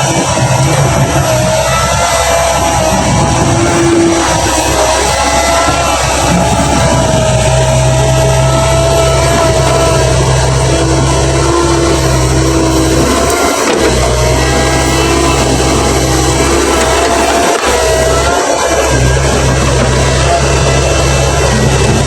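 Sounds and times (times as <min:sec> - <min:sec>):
excavator diesel engine running: 0:00.0 - 0:22.0
steady whine: 0:00.0 - 0:22.0.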